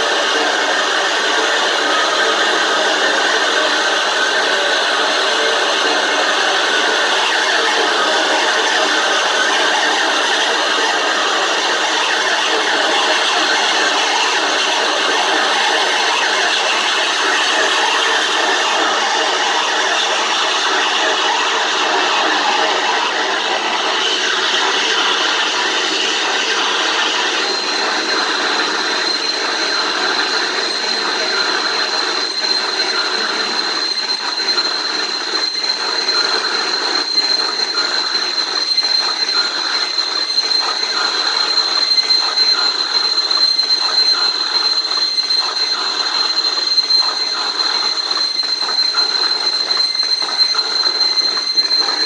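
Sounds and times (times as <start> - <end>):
high-pitched whine: 0.0 - 52.0.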